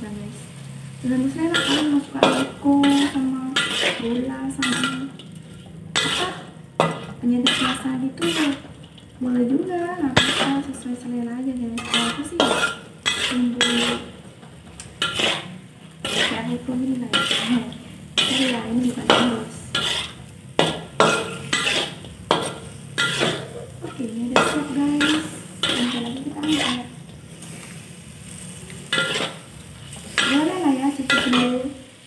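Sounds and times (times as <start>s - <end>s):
oil sizzling: 0.0s - 32.0s
metal spatula scraping wok: 0.4s - 32.0s.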